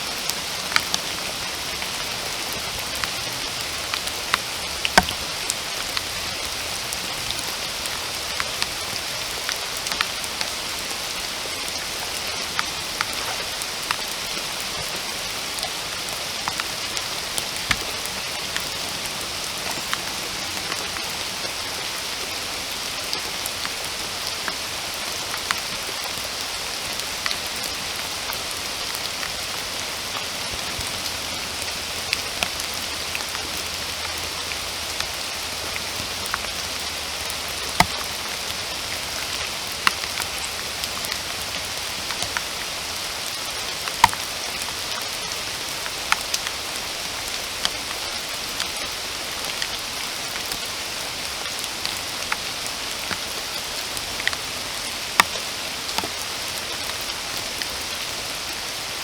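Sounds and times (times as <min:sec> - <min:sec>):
rain hissing: 0:00.0 - 0:59.0
raindrops ticking close by: 0:00.0 - 0:59.0.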